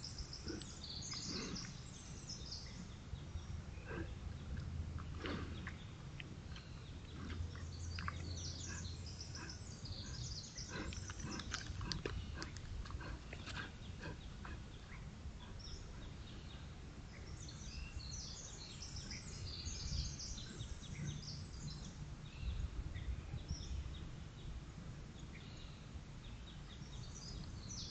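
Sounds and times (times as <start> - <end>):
birds chirping: 0.0 - 24.6, 25.2 - 27.9
steady low rumble: 0.0 - 27.9.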